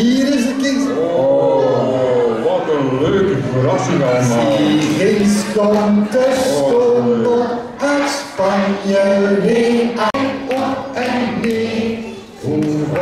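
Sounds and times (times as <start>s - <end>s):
many voices singing: 1.0s - 13.0s.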